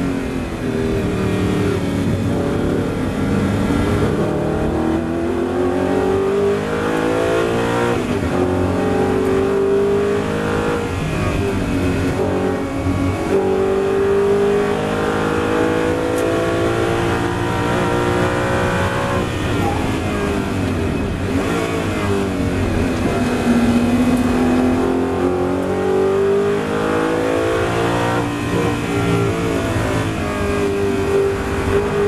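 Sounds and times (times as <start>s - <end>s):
race car engine at full throttle: 0.0s - 32.0s
wind and tyre noise: 0.0s - 32.0s.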